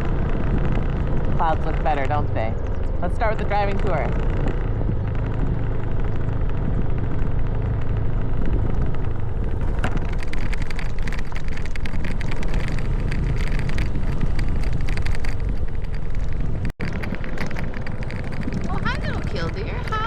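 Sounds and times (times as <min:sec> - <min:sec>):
motorcycle engine drone: 0:00.0 - 0:20.0
wind and road noise: 0:00.0 - 0:20.0.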